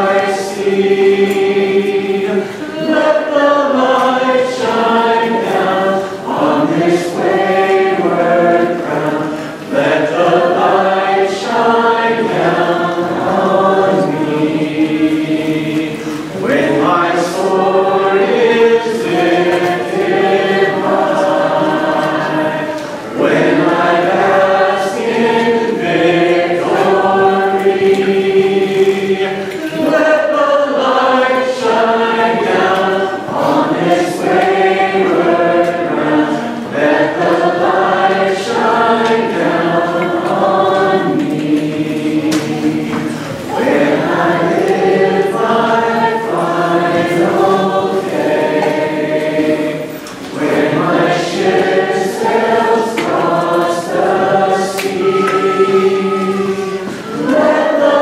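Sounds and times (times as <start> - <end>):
congregation singing unaccompanied: 0.0 - 58.0.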